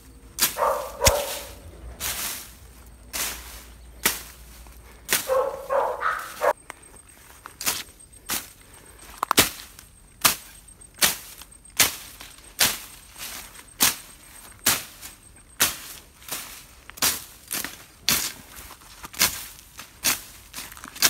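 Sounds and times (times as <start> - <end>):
blade swishing through grass: 0.4 - 6.6, 9.4 - 21.0.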